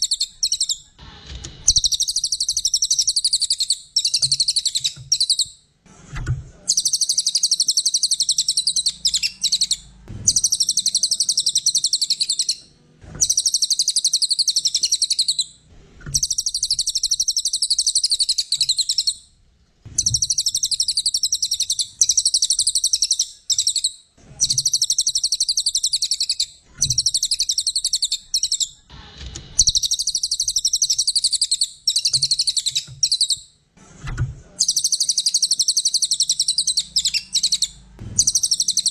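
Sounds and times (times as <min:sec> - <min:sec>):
songbird chattering trills: 0:01.7 - 0:05.5, 0:06.7 - 0:12.6, 0:13.2 - 0:15.5, 0:16.2 - 0:19.2, 0:20.0 - 0:28.8, 0:29.6 - 0:33.4, 0:34.6 - 0:38.9.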